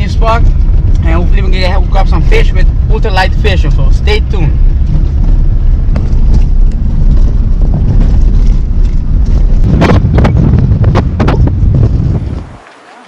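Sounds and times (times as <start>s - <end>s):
wind buffeting microphone: 0.0s - 12.6s
vehicle rumbling on dirt road: 0.0s - 13.0s.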